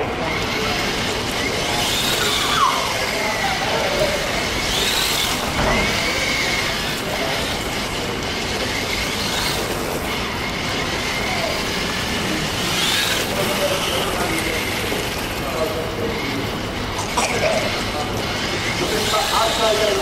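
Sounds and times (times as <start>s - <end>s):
electric motor whining: 0.0s - 16.9s, 17.7s - 20.0s
toy car sliding on tiles: 0.0s - 20.0s.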